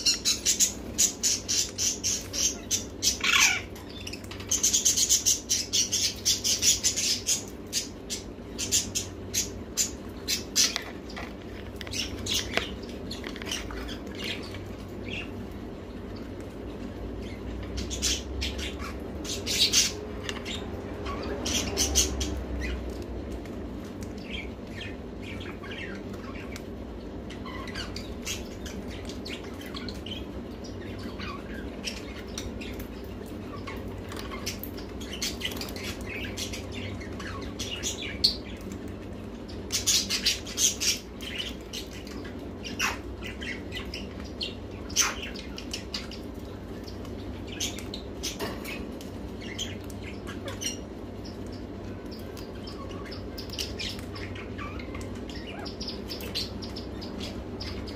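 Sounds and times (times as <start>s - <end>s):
parakeets chirping and squawking: 0.0s - 57.9s.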